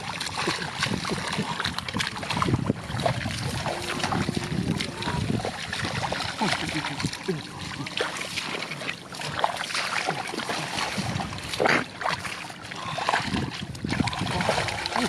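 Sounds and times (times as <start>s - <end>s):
muddy water splashing: 0.0s - 15.0s.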